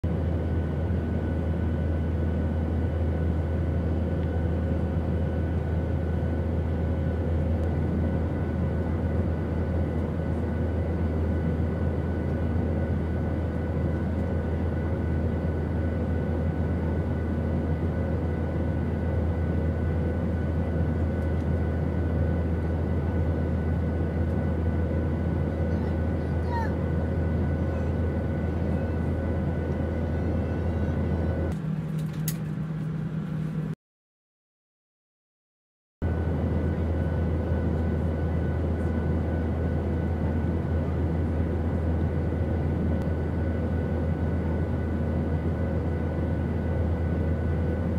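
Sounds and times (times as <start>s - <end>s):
airliner cabin low hum: 0.0s - 33.8s, 36.0s - 47.9s.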